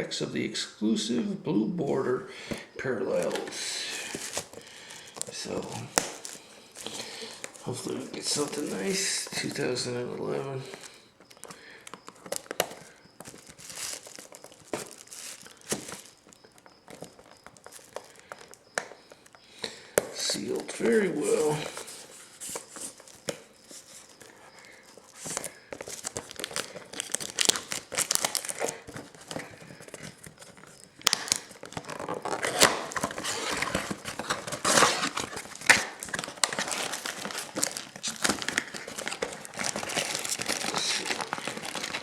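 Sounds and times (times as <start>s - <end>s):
plastic wrap crinkling: 2.4s - 42.0s.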